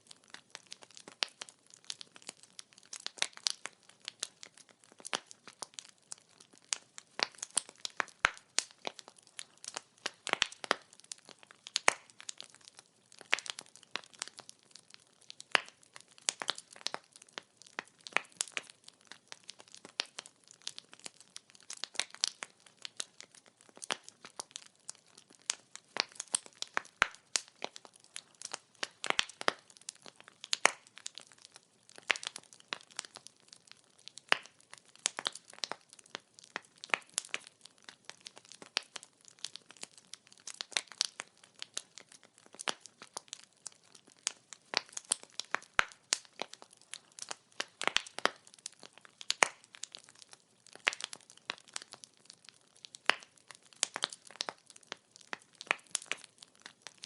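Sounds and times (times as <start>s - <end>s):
firewood crackling: 0.0s - 57.0s.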